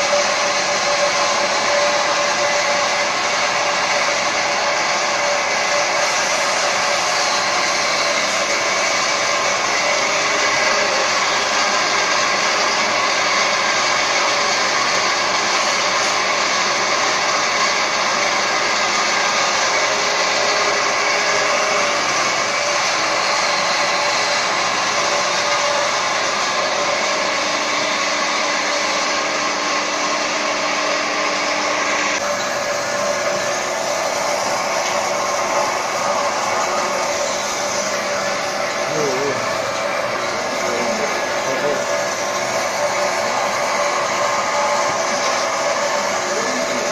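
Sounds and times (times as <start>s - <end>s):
machinery rushing whir: 0.0s - 46.9s.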